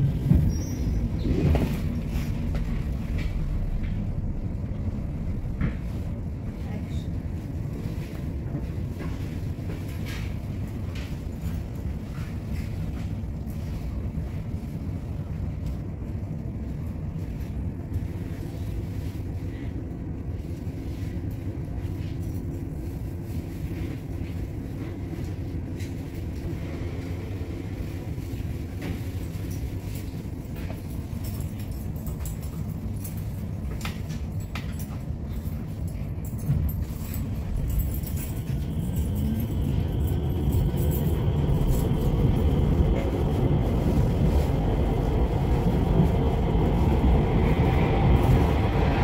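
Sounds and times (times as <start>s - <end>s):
train cabin rumble: 0.0s - 49.0s.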